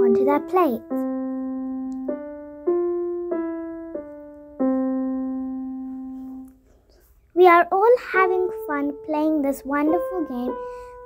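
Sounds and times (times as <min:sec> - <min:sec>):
slow piano-like keyboard melody: 0:00.0 - 0:11.0.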